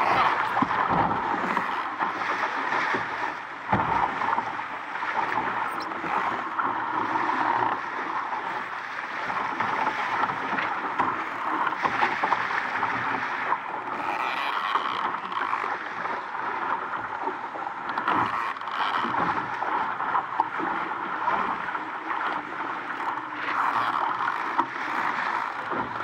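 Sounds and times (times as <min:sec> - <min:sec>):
water rushing along boat hull: 0:00.0 - 0:26.0.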